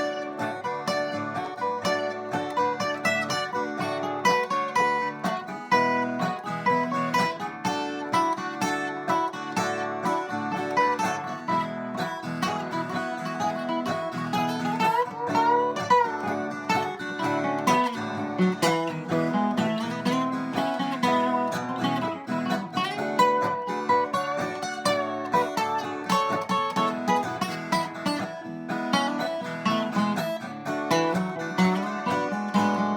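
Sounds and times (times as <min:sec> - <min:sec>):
acoustic guitar playing: 0:00.0 - 0:32.9.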